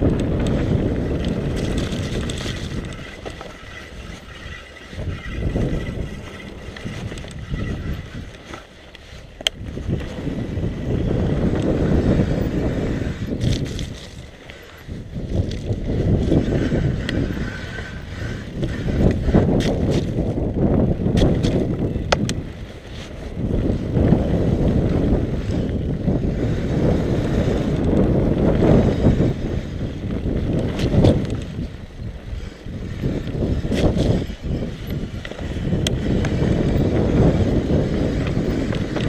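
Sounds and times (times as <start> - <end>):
bike clicks and rattles: 0.0 - 39.0
bike tyres rumbling on dirt: 0.0 - 39.0
wind buffeting microphone: 0.0 - 39.0.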